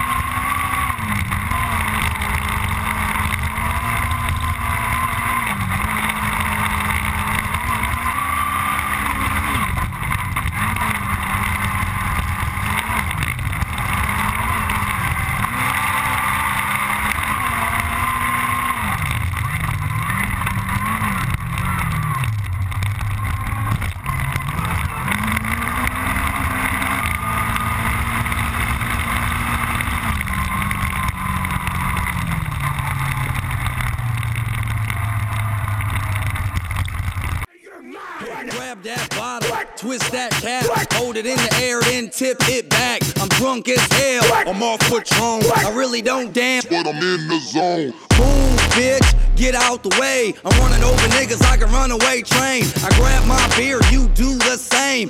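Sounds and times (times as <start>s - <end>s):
car engine at full throttle: 0.0s - 37.5s, 48.1s - 55.0s.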